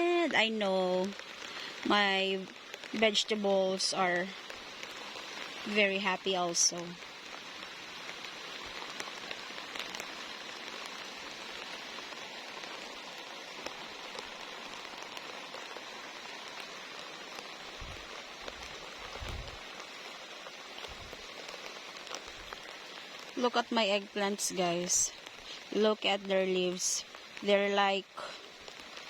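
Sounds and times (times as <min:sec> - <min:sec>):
steady rain hiss: 0:00.0 - 0:29.0
single raindrops ticking: 0:00.6 - 0:29.0.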